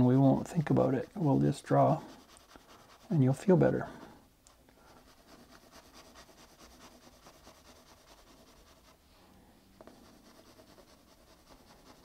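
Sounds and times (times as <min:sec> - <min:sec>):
pencil scratching on paper: 0:00.0 - 0:04.2, 0:04.9 - 0:09.0, 0:09.8 - 0:12.0.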